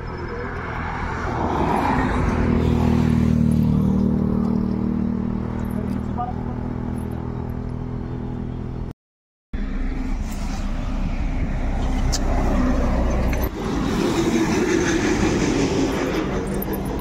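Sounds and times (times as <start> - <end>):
road traffic rumble: 0.0 - 9.0, 9.6 - 17.0.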